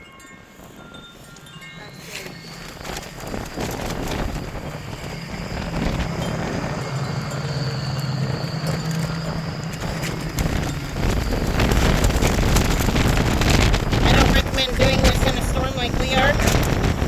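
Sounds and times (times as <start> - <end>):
wind gusts buffeting microphone: 0.4 - 17.0
low hum: 0.8 - 17.0.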